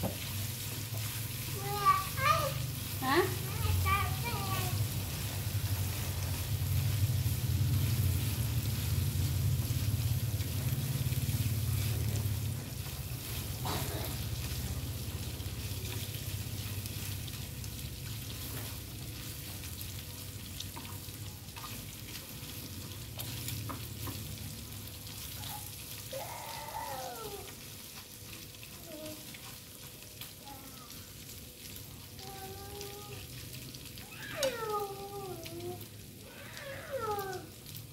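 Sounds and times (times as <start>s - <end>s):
meat sizzling in a pan: 0.0s - 37.9s.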